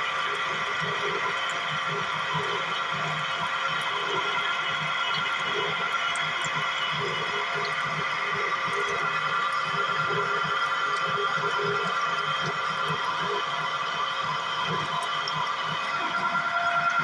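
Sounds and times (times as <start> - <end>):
oil press machine humming and whining: 0.0 - 17.0.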